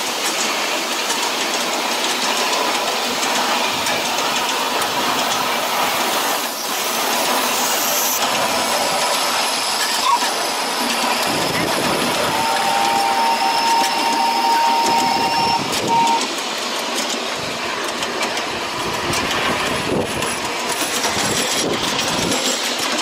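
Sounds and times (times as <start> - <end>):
miniature train rolling on rails: 0.0 - 23.0.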